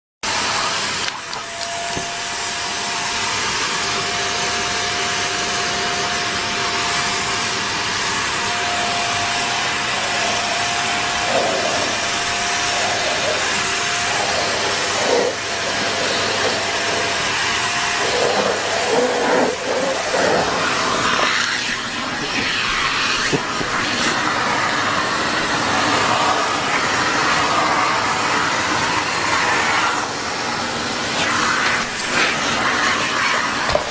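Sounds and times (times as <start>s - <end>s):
vacuum cleaner running: 0.2s - 33.9s.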